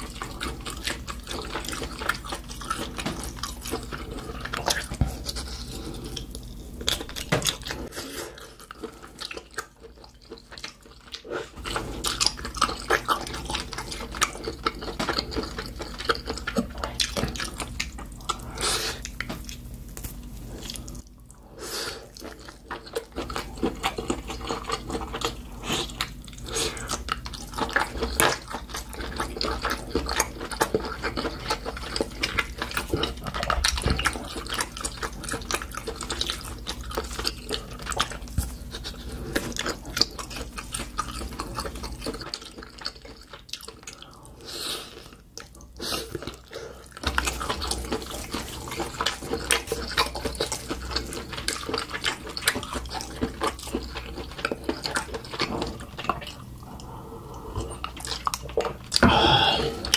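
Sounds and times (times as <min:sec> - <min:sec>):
wet chewing mouth sounds: 0:00.0 - 0:59.9.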